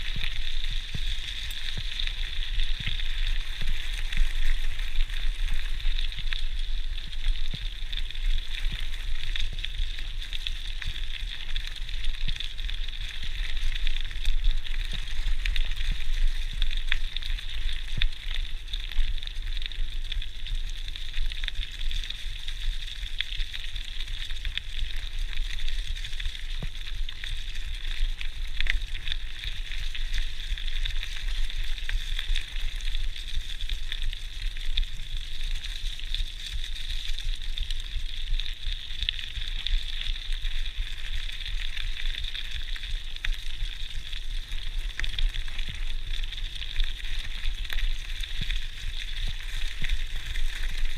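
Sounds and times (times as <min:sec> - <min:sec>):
bike tyres rolling on gravel: 0:00.0 - 0:50.9
small clicks and rattles: 0:00.0 - 0:50.9.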